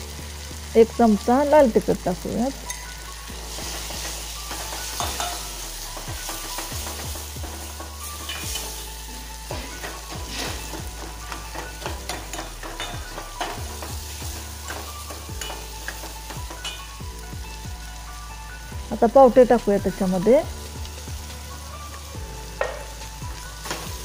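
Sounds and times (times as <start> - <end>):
masala sizzling in a pot: 0.0 - 24.0.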